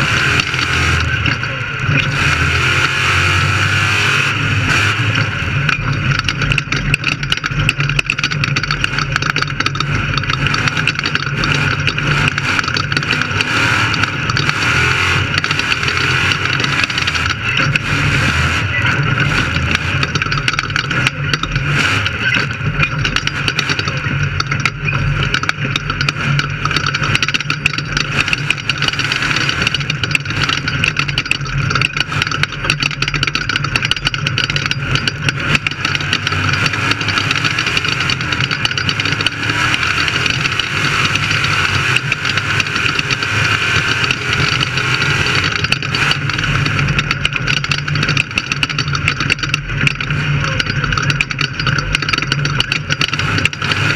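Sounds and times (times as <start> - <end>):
race car engine running hard: 0.0 - 53.9
rattling and jolting: 0.0 - 53.9.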